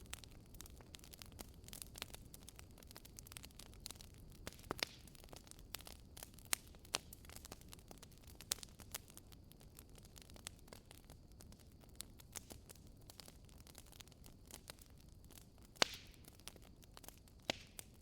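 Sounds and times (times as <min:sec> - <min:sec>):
low rumble of flames: 0:00.0 - 0:18.0
sharp snaps and pops: 0:00.0 - 0:18.0
wood fire crackling: 0:00.0 - 0:18.0.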